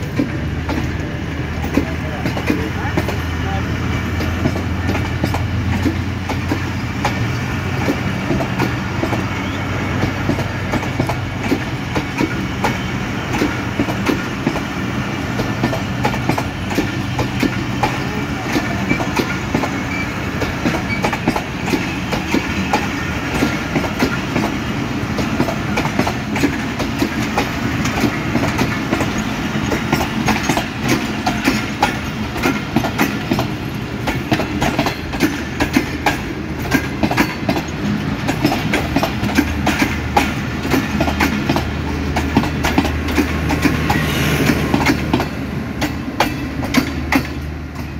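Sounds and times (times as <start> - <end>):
train rumble: 0.0 - 47.9
train wheels clattering over rail joints: 0.0 - 47.9.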